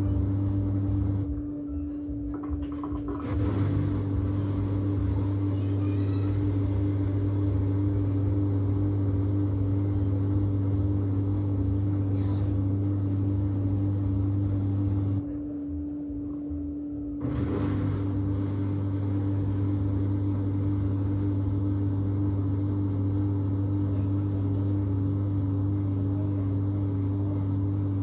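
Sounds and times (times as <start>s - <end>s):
washing machine motor hum: 0.0s - 28.0s.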